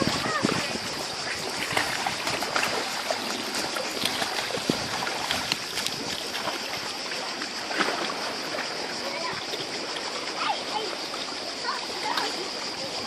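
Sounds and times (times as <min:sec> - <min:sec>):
seawater lapping on rocks: 0:00.0 - 0:13.0
splashing of people wading: 0:00.0 - 0:13.0.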